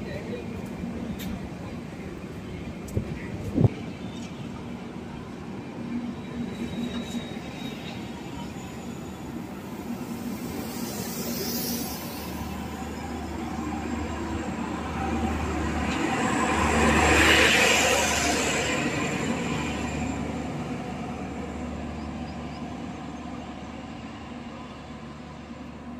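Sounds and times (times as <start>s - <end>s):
passenger train coaches rolling by: 0.0s - 25.9s.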